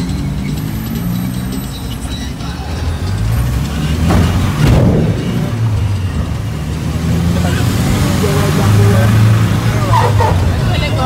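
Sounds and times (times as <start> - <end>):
background music: 0.0 - 11.0
minibus engine running: 0.0 - 11.0
traffic noise rushing: 0.0 - 11.0.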